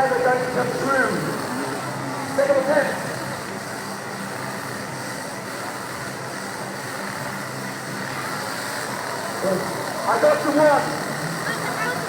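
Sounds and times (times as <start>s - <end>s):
chainsaw engine running: 0.0s - 12.0s.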